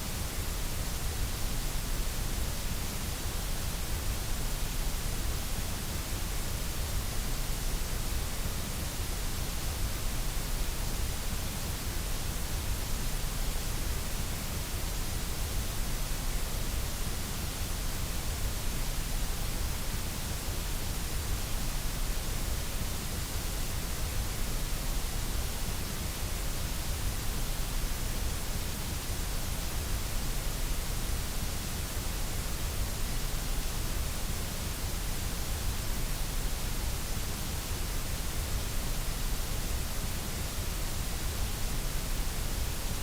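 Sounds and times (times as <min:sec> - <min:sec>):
white noise hiss: 0:00.0 - 0:43.0.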